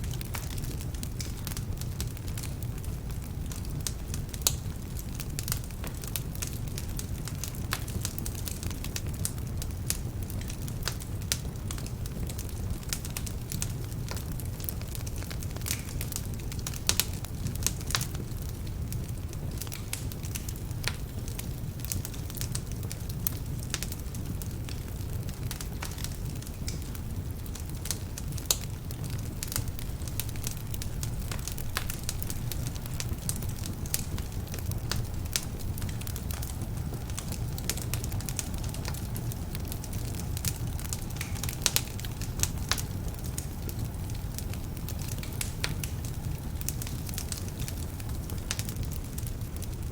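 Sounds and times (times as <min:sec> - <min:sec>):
fire rumbling: 0:00.0 - 0:49.9
logs crackling and popping: 0:00.0 - 0:49.9.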